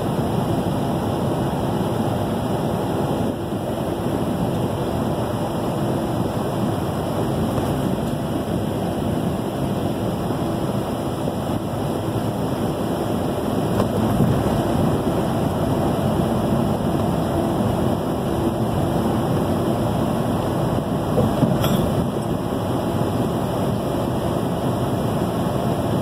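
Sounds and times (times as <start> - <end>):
vehicle engine: 0.0 - 26.0.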